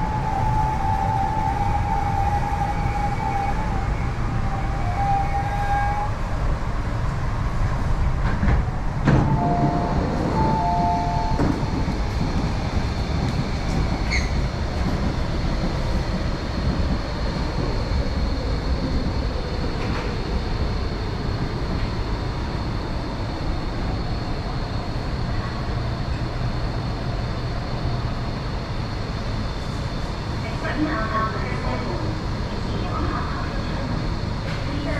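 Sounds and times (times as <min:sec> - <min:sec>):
train wheels rumbling on track: 0:00.0 - 0:34.9.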